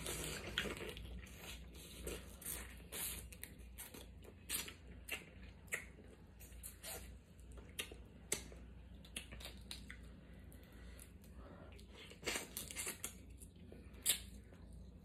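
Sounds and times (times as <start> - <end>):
chewing crab meat: 0.0 - 15.0.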